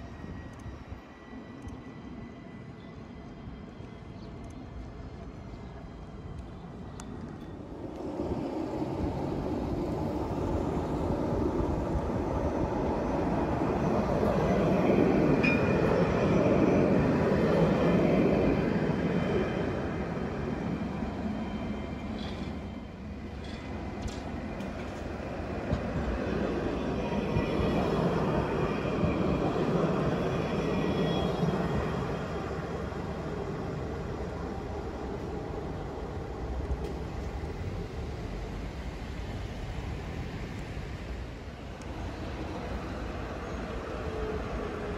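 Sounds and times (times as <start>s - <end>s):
tram passing on track: 0.0s - 44.9s.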